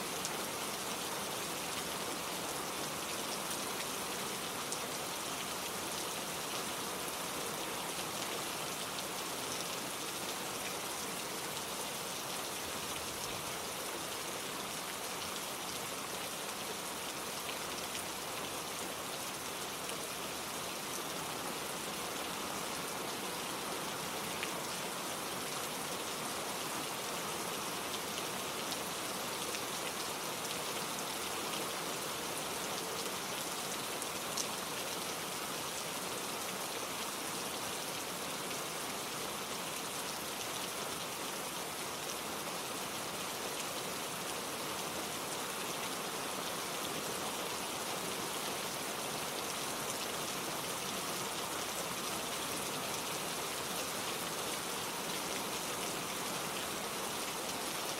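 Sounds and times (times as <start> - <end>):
gentle rain falling: 0.0 - 57.9.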